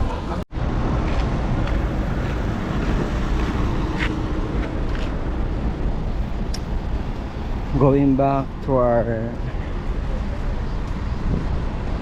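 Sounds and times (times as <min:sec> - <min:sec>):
wind buffeting microphone: 0:00.0 - 0:08.6, 0:09.4 - 0:12.0.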